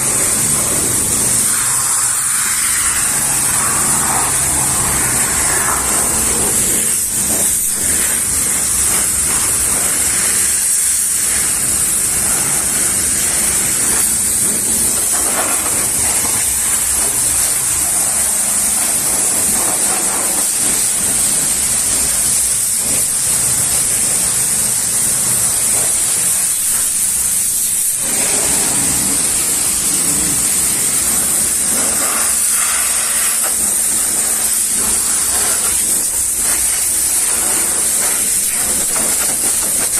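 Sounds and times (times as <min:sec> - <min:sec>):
pressure washer spraying water: 0:00.0 - 0:39.9.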